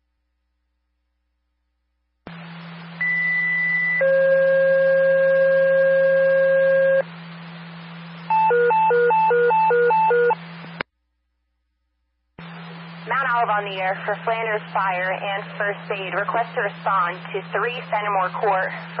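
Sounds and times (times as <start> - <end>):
radio static and low hum: 2.3 - 10.9, 12.4 - 19.0.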